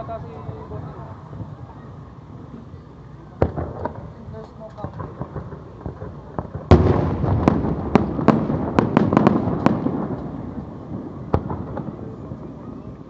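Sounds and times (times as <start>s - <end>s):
firework bangs and crackling: 0.0s - 13.0s.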